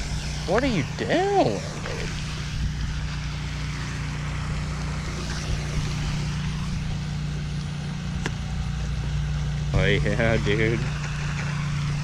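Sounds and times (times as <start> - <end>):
low motor hum: 0.0 - 12.0
outdoor hiss: 0.0 - 12.0.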